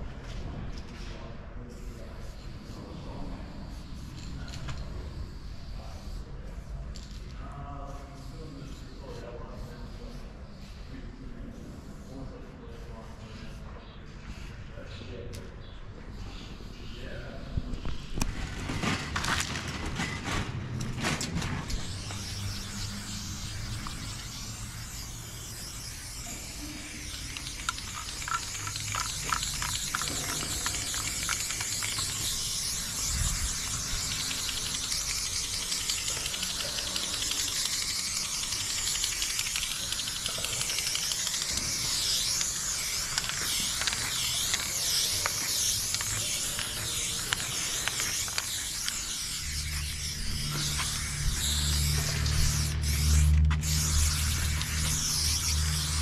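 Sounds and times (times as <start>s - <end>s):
spray paint cans hissing: 0.0s - 12.4s, 17.8s - 56.0s.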